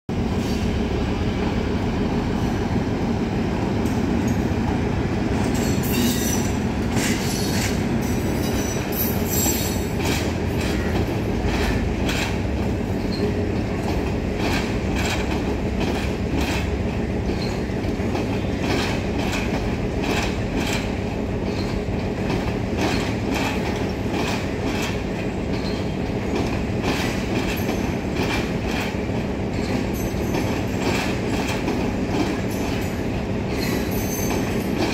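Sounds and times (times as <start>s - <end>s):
train wheels clacking over rail joints: 3.7s - 34.9s.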